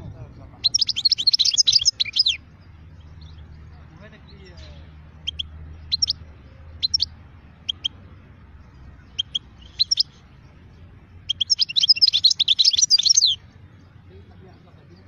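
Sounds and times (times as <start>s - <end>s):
finch chirping and twittering song: 0.0s - 15.0s.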